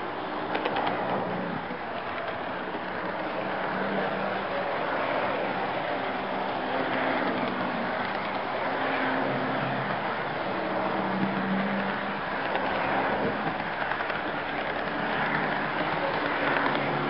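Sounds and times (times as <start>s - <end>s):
model train wheels rattling on rail: 0.0s - 17.0s.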